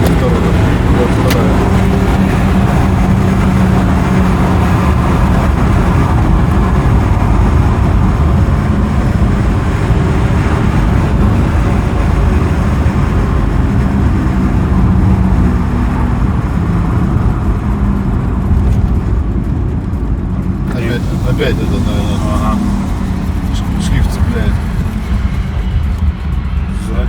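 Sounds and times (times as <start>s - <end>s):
car engine: 0.0s - 27.0s
tyre and road noise: 0.0s - 27.0s.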